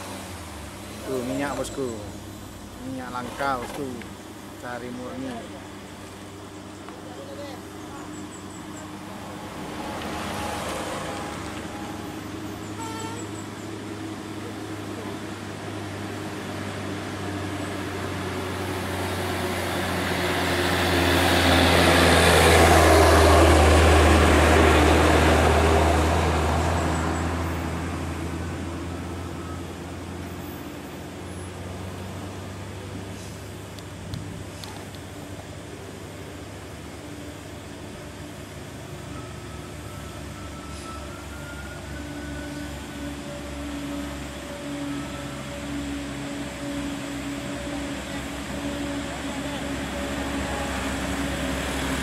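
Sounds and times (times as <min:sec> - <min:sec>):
diesel truck passing: 0:00.0 - 0:52.0
low engine hum: 0:00.0 - 0:52.0.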